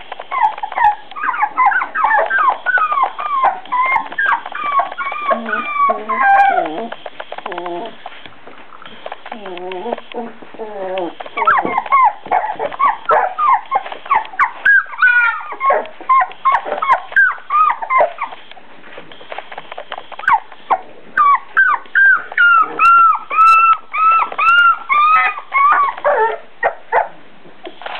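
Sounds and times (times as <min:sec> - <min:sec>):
puppies yipping and whining: 0:00.0 - 0:08.0, 0:09.3 - 0:18.5, 0:20.2 - 0:27.1.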